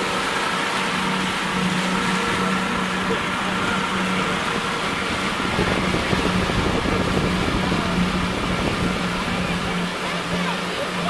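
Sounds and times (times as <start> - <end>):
motorboat engine running: 0.0 - 11.0
rushing wind and water: 0.0 - 11.0.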